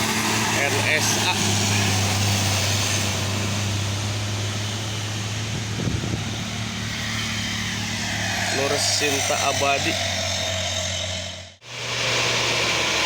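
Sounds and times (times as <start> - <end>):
low engine hum: 0.0 - 13.0
passing vehicles rushing: 0.0 - 13.0.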